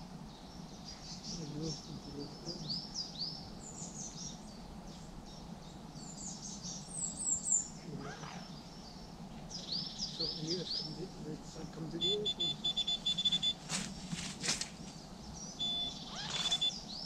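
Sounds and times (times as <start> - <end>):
faint low rumble: 0.0 - 17.0
small birds chirping: 0.0 - 17.0.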